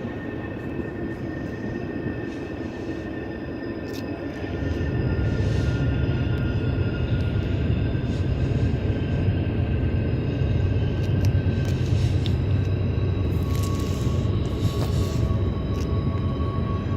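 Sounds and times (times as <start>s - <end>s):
train rolling past: 0.0s - 16.9s.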